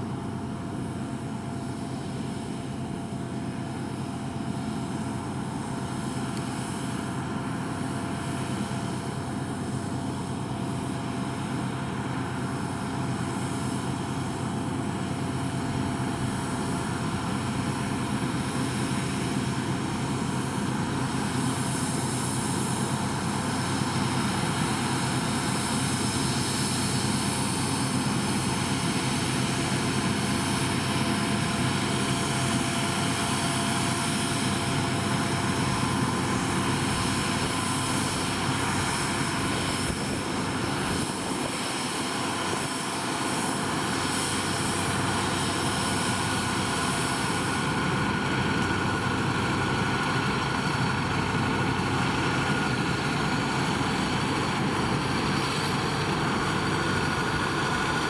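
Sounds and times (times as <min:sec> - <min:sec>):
combine harvester running: 0:00.0 - 0:58.0
tractor engine running: 0:00.0 - 0:58.0.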